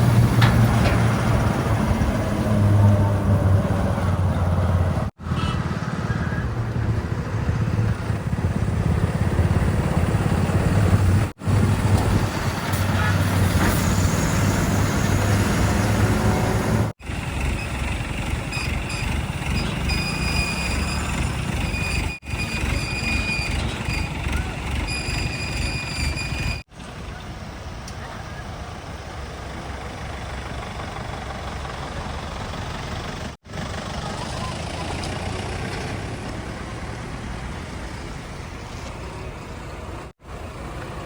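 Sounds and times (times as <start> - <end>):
heavy diesel engines running: 0.0 - 41.0.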